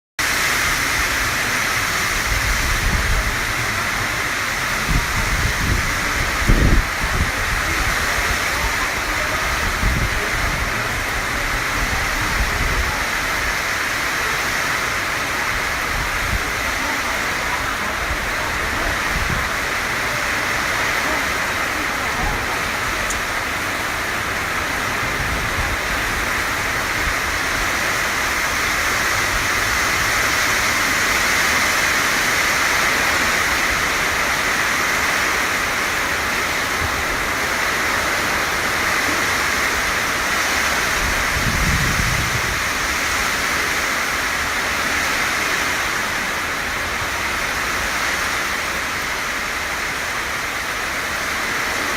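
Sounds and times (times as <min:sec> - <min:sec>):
heavy rain pouring: 0:00.2 - 0:51.9
wind gusts on microphone: 0:00.2 - 0:51.9.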